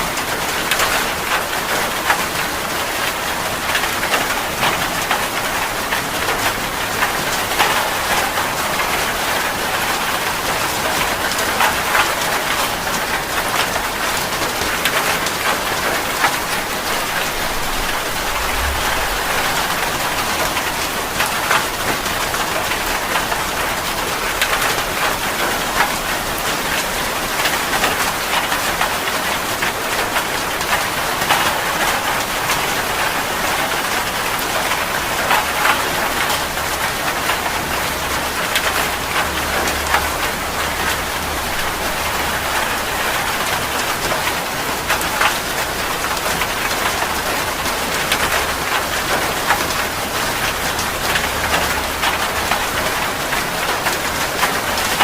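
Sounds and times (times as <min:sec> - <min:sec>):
steady rain on a surface: 0:00.0 - 0:55.0.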